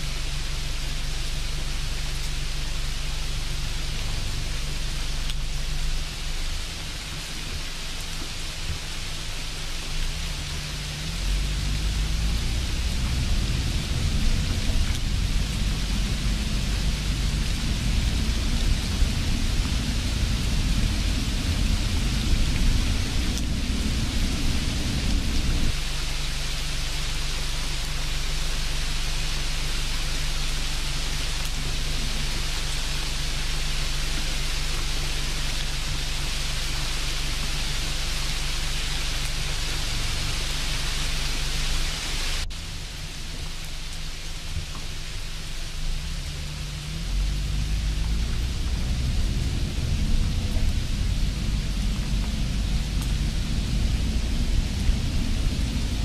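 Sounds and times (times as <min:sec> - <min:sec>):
background hiss: 0:00.0 - 0:56.0
deep rumble: 0:00.0 - 0:56.0.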